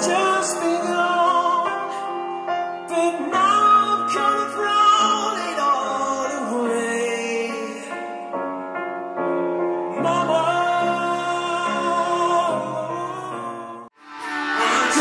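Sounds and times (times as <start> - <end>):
man singing with vibrato: 0.0 - 8.3, 9.8 - 15.0.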